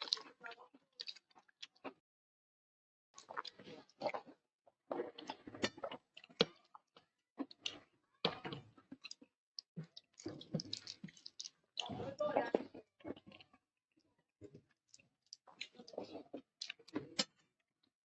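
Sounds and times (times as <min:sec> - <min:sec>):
person chewing: 0:00.0 - 0:00.4, 0:01.0 - 0:01.9, 0:03.2 - 0:13.6, 0:14.6 - 0:17.4.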